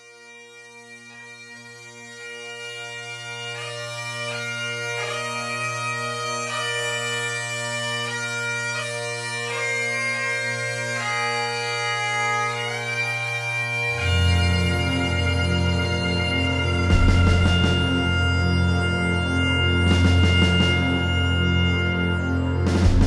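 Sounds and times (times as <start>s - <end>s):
bagpipes playing melody: 0.0s - 23.0s.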